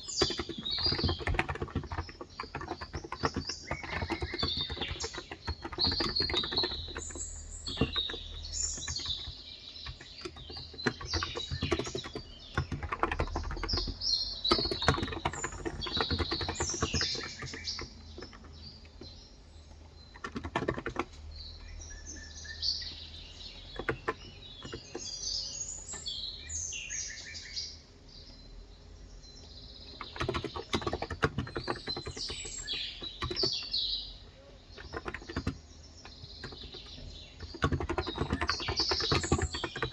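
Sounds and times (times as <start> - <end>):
keyboard typing: 0.0 - 22.2, 22.8 - 26.2, 29.8 - 39.9
small birds chirping: 0.0 - 39.9.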